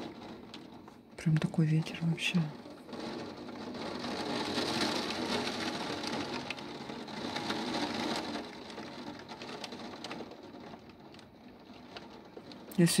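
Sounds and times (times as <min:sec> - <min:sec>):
rain: 0:00.0 - 0:13.0
raindrops ticking on a surface: 0:00.0 - 0:13.0.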